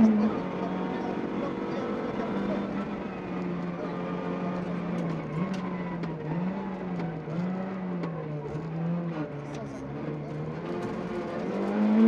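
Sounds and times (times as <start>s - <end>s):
car engine at speed from inside: 0.0s - 12.0s.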